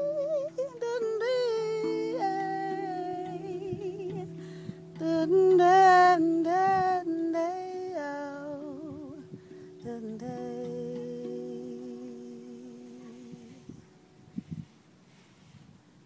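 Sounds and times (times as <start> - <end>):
woman singing wordlessly: 0.0 - 14.0.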